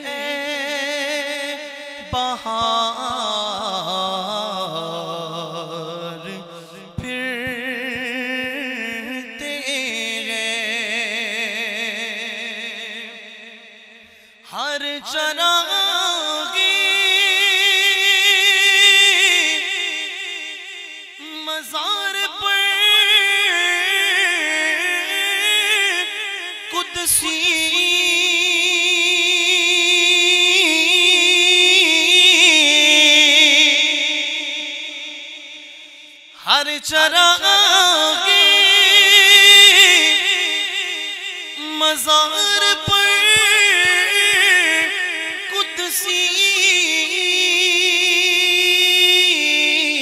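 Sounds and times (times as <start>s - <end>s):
man singing unaccompanied: 0.0s - 13.8s, 14.5s - 50.0s.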